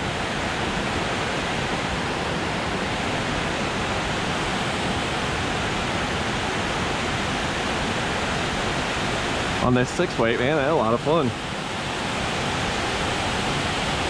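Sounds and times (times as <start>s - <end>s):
water rushing over spillway: 0.0s - 14.0s.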